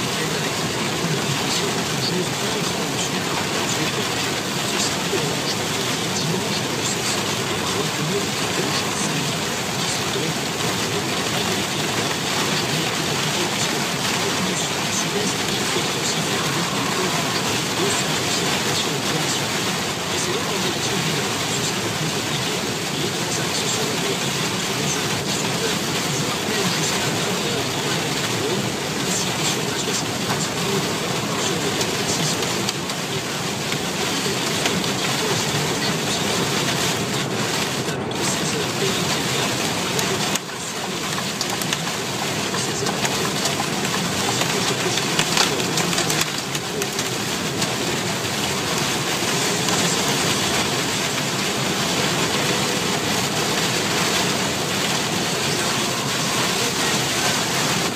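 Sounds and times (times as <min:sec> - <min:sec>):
heavy rain: 0:00.0 - 0:57.9
tyres on wet road: 0:00.0 - 0:57.9.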